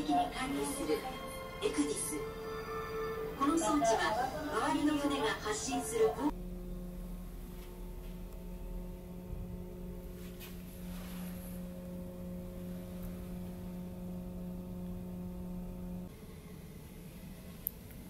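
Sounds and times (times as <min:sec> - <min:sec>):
ship machinery hum with tones: 0:00.0 - 0:18.0.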